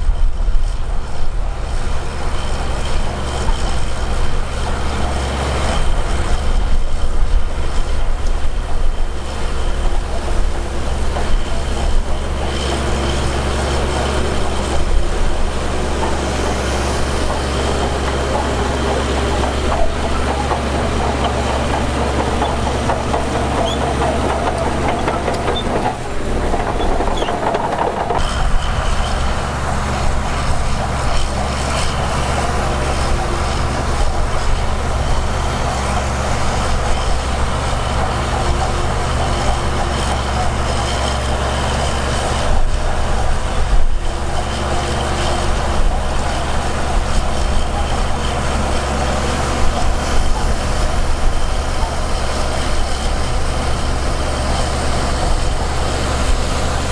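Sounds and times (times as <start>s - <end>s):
diesel engine rumble: 0.0s - 56.9s
machinery clanking: 0.1s - 56.9s.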